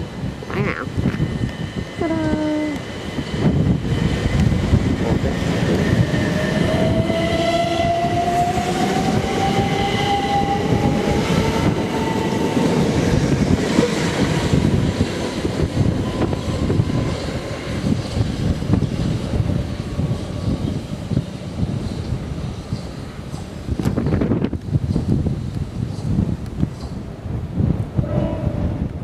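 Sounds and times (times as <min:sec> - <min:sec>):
train running: 0:00.0 - 0:29.0
wind buffeting microphone: 0:00.0 - 0:29.0.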